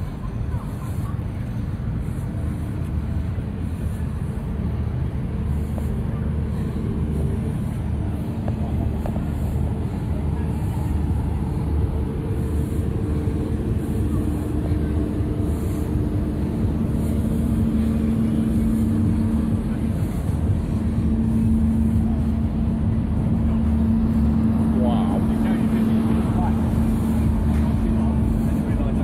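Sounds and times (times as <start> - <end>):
funfair ride machinery rumbling: 0.0 - 29.0.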